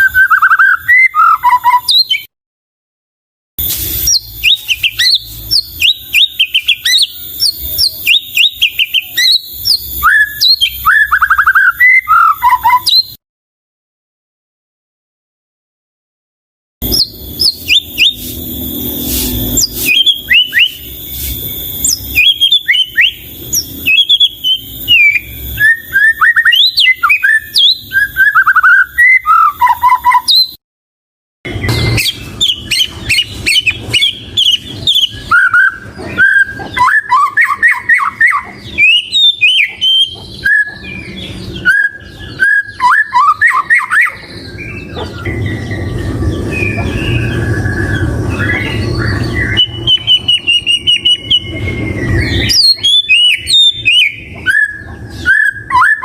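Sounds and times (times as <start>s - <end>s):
bird singing whistled song: 0.0s - 2.3s, 3.7s - 13.2s, 16.8s - 30.6s, 31.5s - 56.0s.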